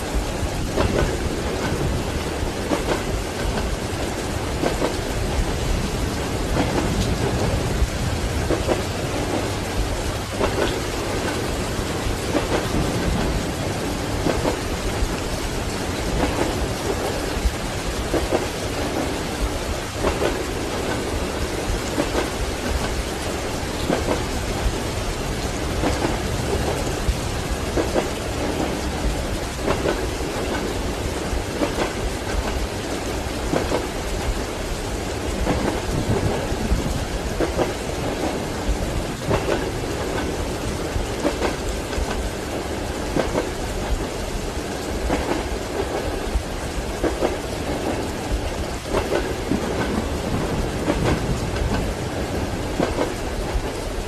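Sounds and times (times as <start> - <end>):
rumbling thunder: 0.0 - 32.6, 35.2 - 42.2, 47.0 - 54.0
steady rain: 0.0 - 54.0
train rumbling: 0.0 - 54.0
train wheels clacking on rail joints: 0.0 - 54.0.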